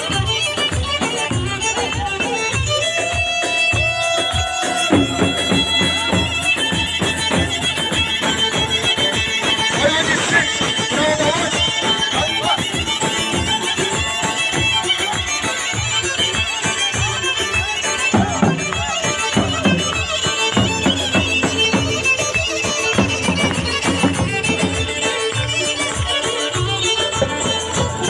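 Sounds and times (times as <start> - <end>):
drum beating steady rhythm: 0.0 - 28.0.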